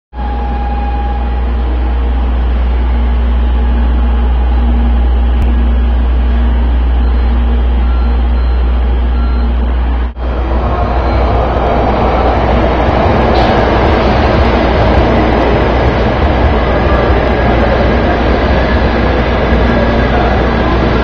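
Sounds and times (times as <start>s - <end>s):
train station platform rumble: 0.2s - 21.0s.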